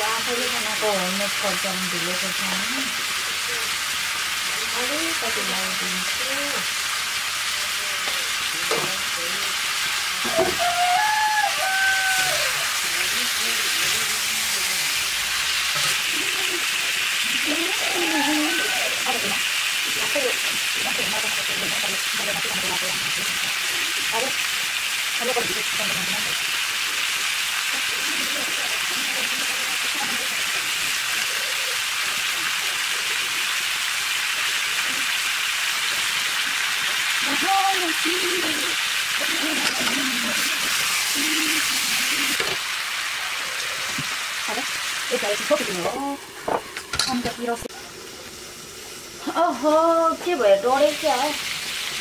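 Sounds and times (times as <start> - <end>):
chicken sizzling in a pan: 0.0 - 52.0.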